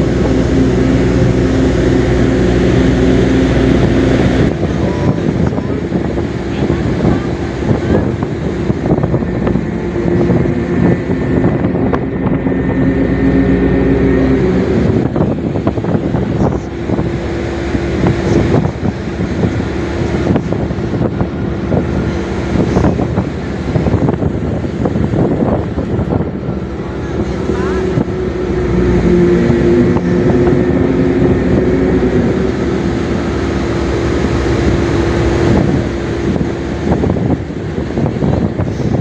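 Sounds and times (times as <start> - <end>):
ferry engines droning: 0.0 - 39.0
wind buffeting microphone: 0.0 - 39.0.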